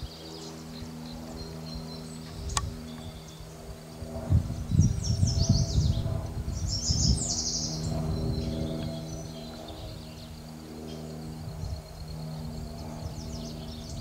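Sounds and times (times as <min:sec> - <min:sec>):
birds chirping: 0:00.0 - 0:14.0
low rumbling noise: 0:00.0 - 0:14.0.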